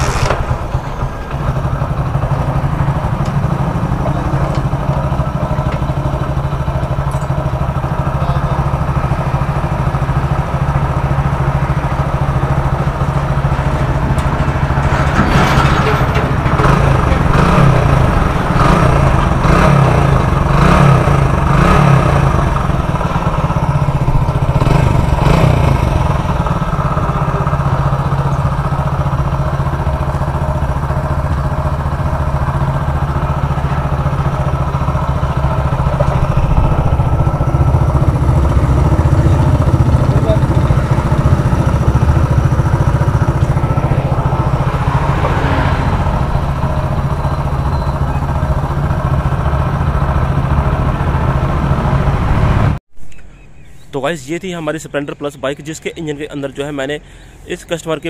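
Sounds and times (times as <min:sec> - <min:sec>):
motorcycle engine idling and revving: 0:00.0 - 0:52.8.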